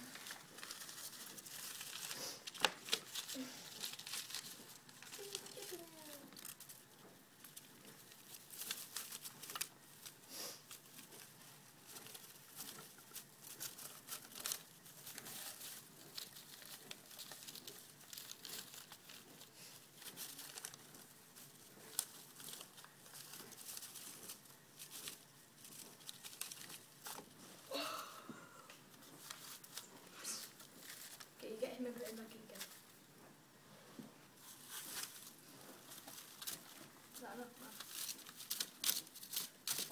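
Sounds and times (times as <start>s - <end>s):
shredded paper rustling: 0.0s - 27.7s, 29.1s - 33.0s, 34.4s - 39.9s.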